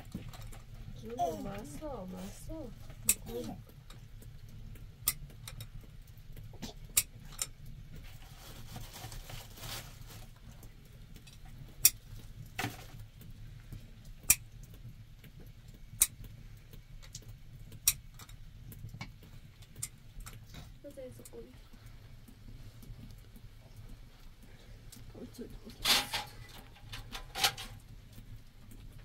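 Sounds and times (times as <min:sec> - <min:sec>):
fire popping: 0:00.0 - 0:29.0
low steady hum: 0:00.0 - 0:29.0
wood fire crackling: 0:00.0 - 0:29.0.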